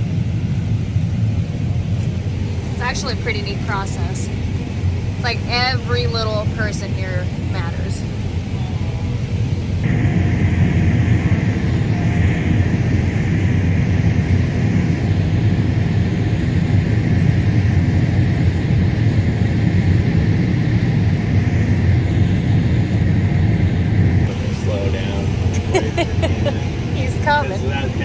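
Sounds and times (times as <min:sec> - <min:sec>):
combine harvester drone: 0:00.0 - 0:28.0.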